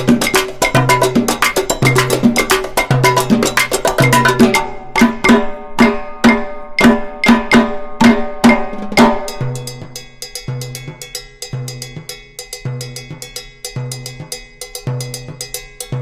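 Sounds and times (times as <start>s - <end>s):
drum and percussion beat: 0.0s - 16.0s.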